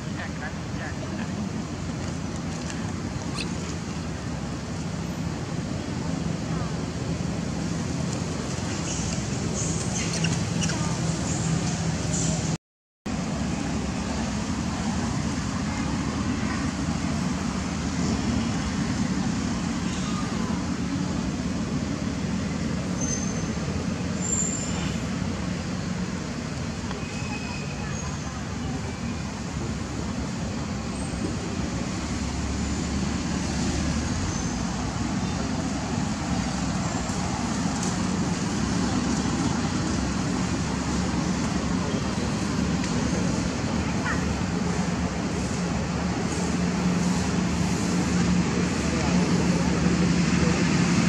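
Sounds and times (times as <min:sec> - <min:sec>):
distant traffic rumble: 0:00.0 - 0:51.0.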